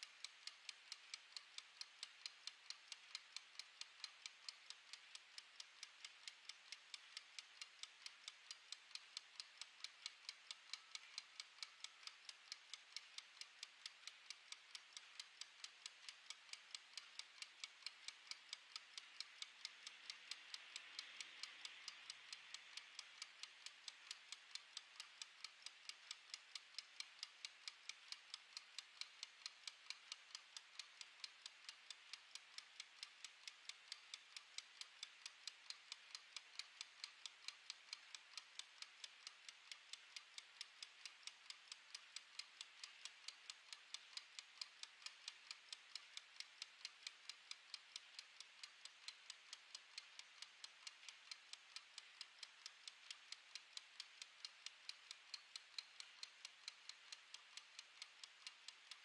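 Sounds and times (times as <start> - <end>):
kitchen timer ticking: 0.0 - 59.0.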